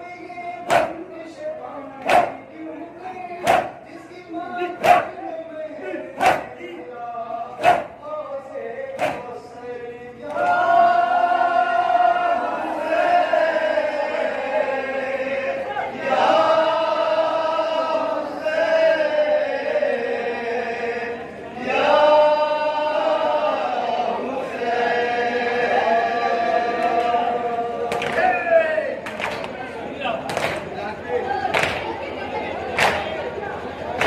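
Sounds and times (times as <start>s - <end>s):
men chanting lament: 0.0s - 29.2s.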